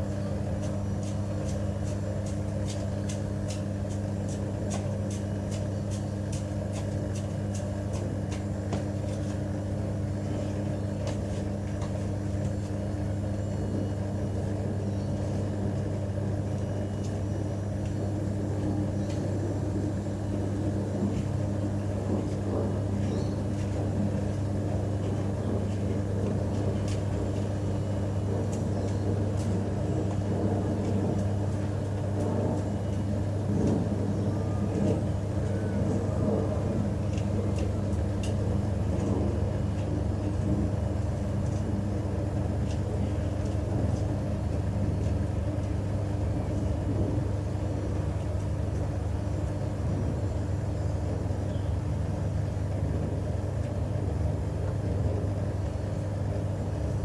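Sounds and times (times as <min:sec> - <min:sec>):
washing machine churning: 0:00.0 - 0:57.0
washing machine motor hum: 0:00.0 - 0:57.0.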